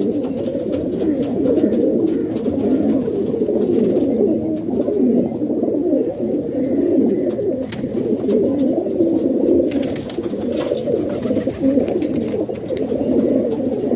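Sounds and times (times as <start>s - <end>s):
pigeons cooing: 0.0s - 13.9s.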